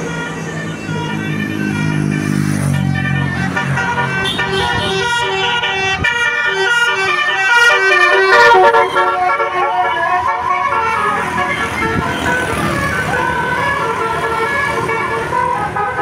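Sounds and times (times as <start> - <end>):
bus horn playing a tune: 0.0 - 16.0.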